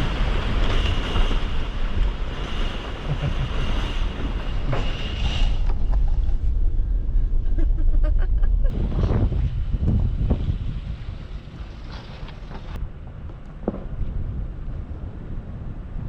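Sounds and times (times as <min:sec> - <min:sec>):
car engine and tyres rumbling: 0:00.0 - 0:16.0
wind buffeting microphone: 0:00.0 - 0:16.0.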